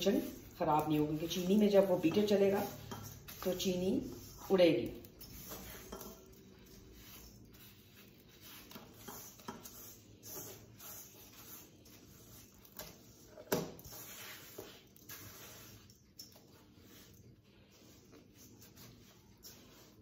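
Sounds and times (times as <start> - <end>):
spatula scraping a steel bowl: 0.0 - 20.0.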